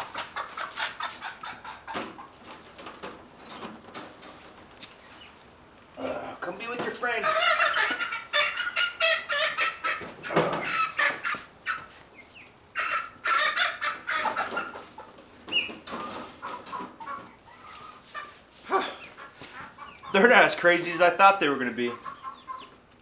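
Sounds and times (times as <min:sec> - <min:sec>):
young chickens clucking and squawking: 0:00.0 - 0:05.6, 0:06.4 - 0:23.0.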